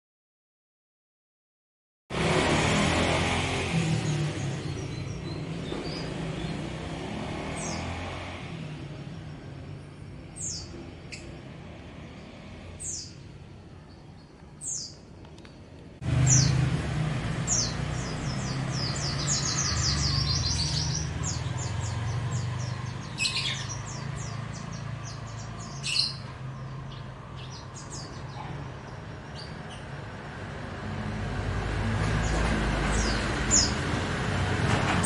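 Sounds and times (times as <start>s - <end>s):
songbirds chirping: 3.4s - 34.2s.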